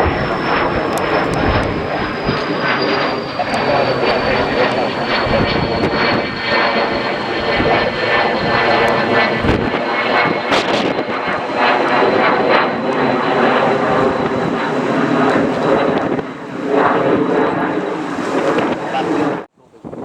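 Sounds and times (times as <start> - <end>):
thin high whine: 0.0 - 16.9
airliner engines running: 0.0 - 20.0
wind buffeting microphone: 0.0 - 20.0.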